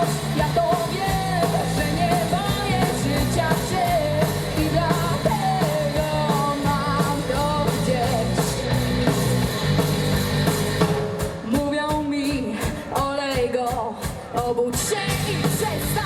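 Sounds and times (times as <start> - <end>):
person singing: 0.0 - 8.6, 11.4 - 16.0
live rock band playing: 0.0 - 12.0, 14.8 - 16.0.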